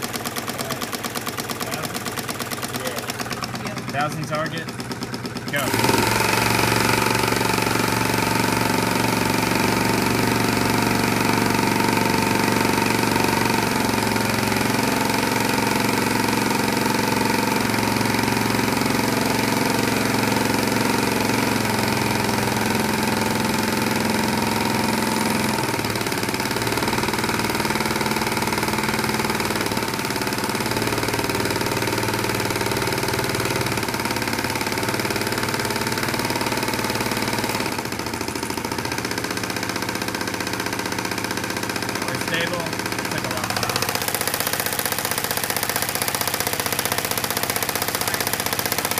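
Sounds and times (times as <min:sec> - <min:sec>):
compressed-air engine running: 0:00.0 - 0:48.9.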